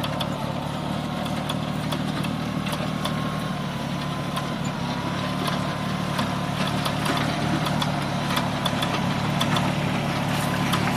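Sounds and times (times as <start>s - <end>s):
tractor diesel engine under load: 0.0s - 10.9s.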